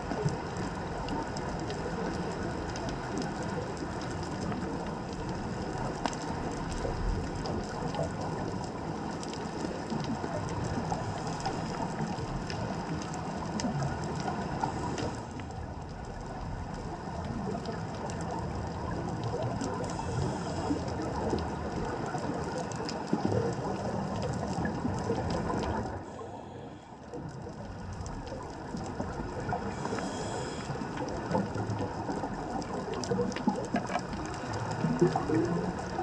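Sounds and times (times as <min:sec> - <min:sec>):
faint clicks and crackles: 0:00.0 - 0:36.0
underwater rushing water noise: 0:00.0 - 0:36.0.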